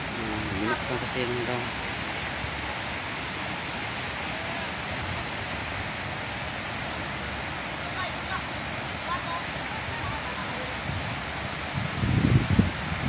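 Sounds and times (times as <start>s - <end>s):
water flowing down concrete channel: 0.0s - 13.0s.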